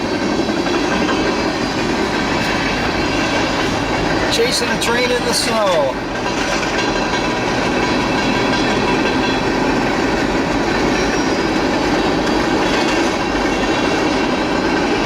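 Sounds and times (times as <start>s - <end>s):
freight train rolling on track: 0.0s - 15.0s.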